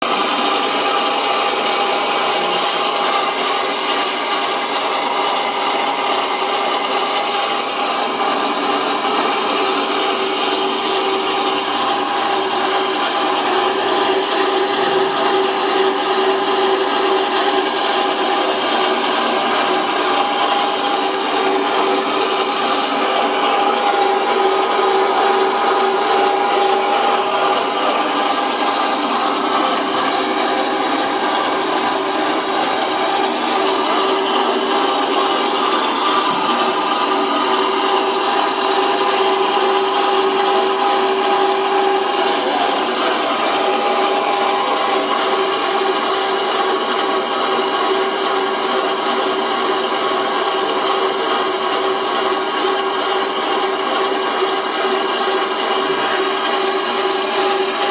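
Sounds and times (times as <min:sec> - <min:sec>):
machine tool motor whining: 0:00.0 - 0:57.9.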